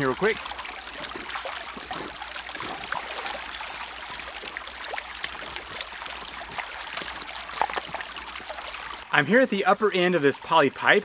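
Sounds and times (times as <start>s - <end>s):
boots wading through water: 0.0s - 9.0s
creek running over rocks: 0.0s - 11.0s.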